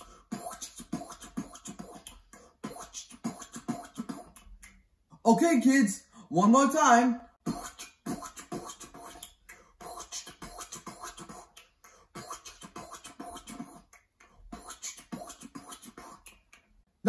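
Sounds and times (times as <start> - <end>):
man beatboxing: 0.0 - 4.6, 6.5 - 16.6.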